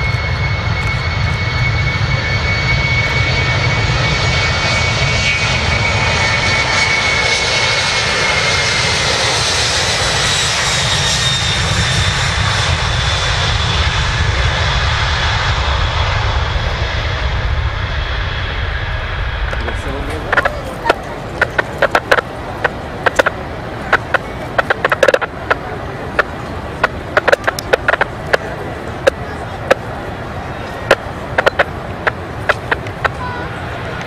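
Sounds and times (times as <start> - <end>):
jet engines roaring with whine: 0.0 - 34.0.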